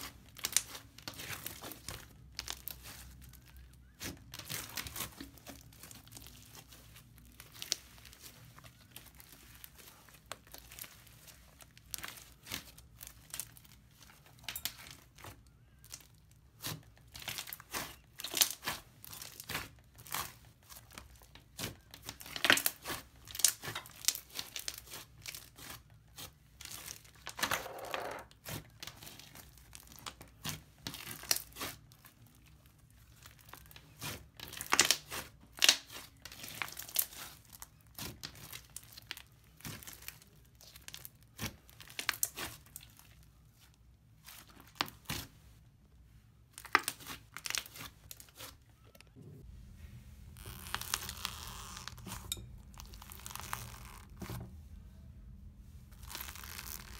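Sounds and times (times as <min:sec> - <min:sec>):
sticky slime crackling and popping: 0:00.0 - 0:27.5, 0:28.3 - 0:43.4, 0:50.3 - 0:54.4, 0:55.9 - 0:56.9.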